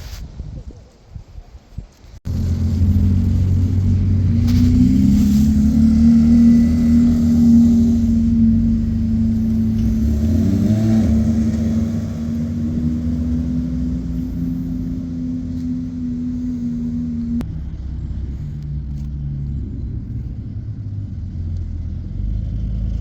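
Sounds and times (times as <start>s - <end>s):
sports car engine running: 2.3s - 23.0s.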